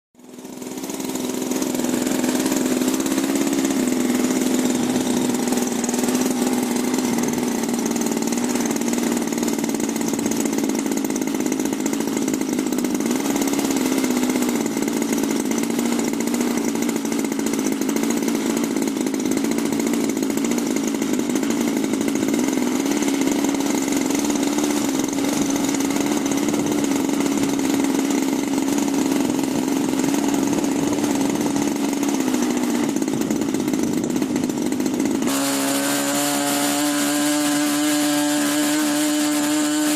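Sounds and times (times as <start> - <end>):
propeller plane engine drone: 0.2 - 39.9.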